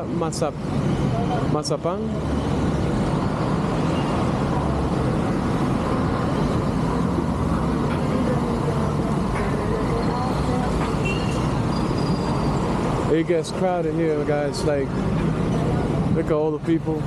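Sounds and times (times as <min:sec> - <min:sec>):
city road traffic: 0:00.0 - 0:17.0.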